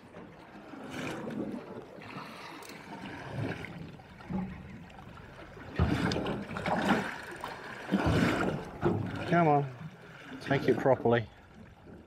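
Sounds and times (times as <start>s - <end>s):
water lapping against a boat: 0.0s - 12.0s
water slapping a boat: 0.0s - 12.0s.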